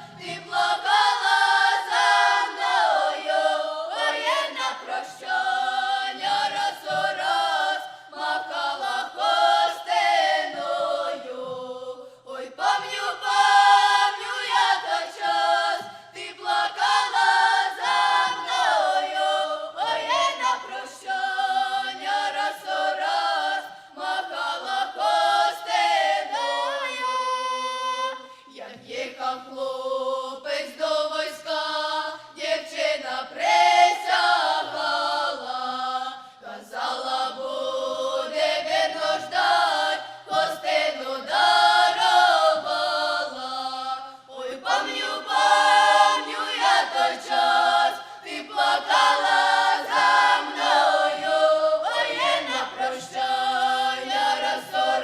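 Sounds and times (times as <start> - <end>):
children singing unaccompanied: 0.0 - 55.0.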